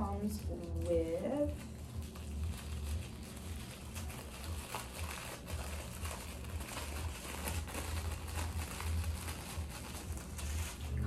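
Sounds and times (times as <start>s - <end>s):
low steady hum: 0.0s - 11.0s
tissue paper crinkling: 0.0s - 11.0s.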